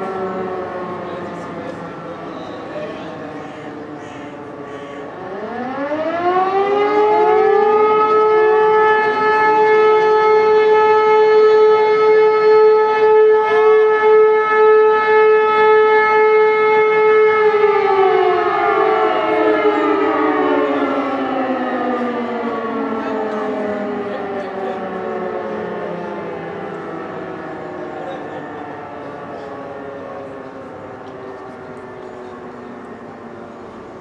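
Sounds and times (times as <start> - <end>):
civil defence siren: 0.0 - 34.0.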